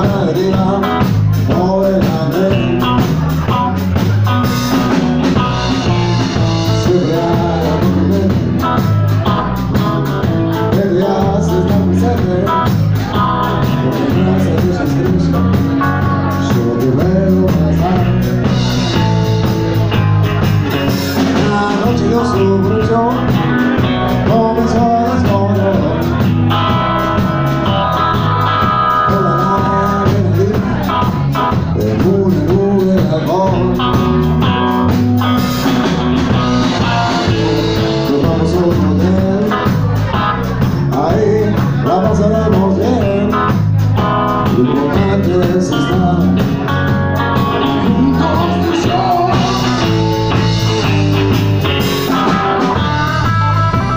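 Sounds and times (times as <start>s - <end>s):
bass guitar: 0.0s - 53.9s
drum kit: 0.0s - 53.9s
electric guitar lead with bends: 0.0s - 53.9s.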